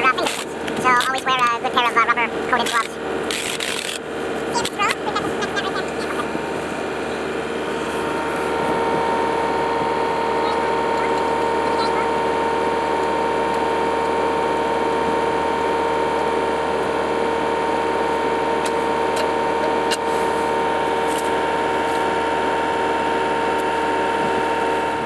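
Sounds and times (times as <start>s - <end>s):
machine whine with rattle: 0.0s - 25.0s.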